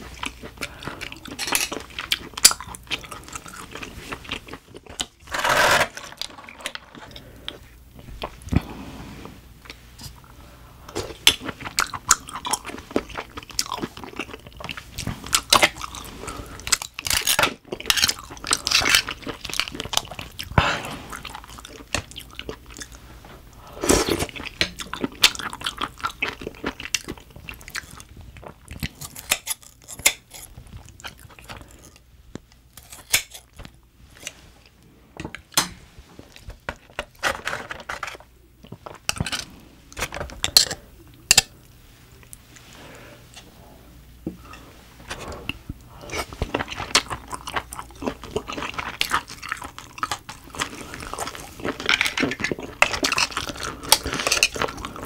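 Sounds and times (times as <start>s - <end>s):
close chewing and mouth sounds: 0.0s - 5.3s, 6.1s - 55.0s.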